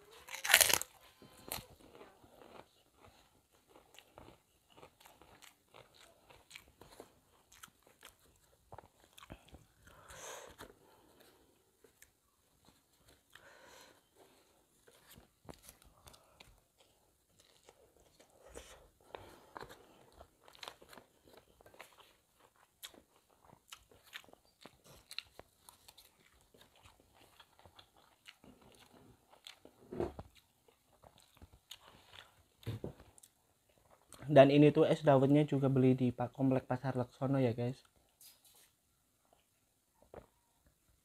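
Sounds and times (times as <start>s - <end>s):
person chewing crunchy food: 0.0s - 34.3s.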